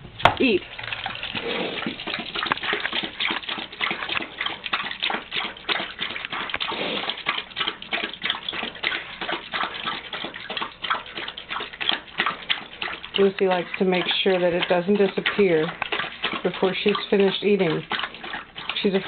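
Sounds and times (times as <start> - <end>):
dog chomping and slurping food: 0.2 - 19.0.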